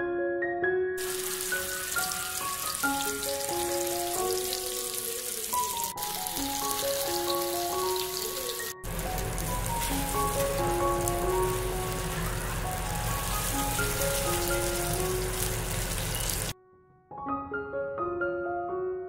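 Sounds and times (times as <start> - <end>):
soft keyboard background music: 0.0 - 19.0
fish sizzling and crackling: 1.0 - 16.6.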